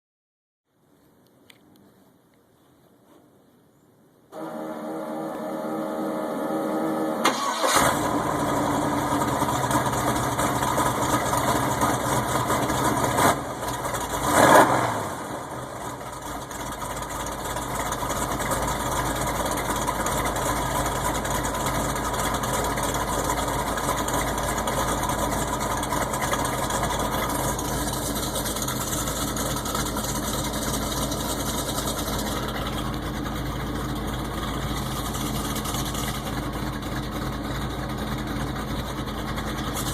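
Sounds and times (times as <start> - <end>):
v-eight engine starting and idling: 4.4 - 39.9.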